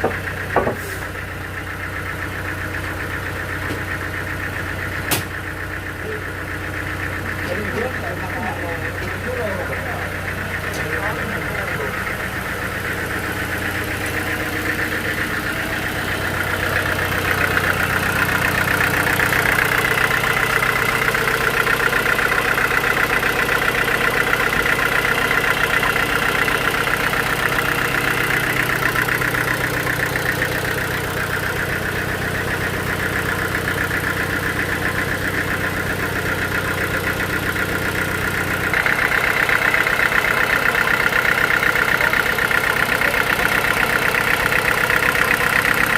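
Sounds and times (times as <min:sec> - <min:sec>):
engine hum: 0:00.0 - 0:45.9.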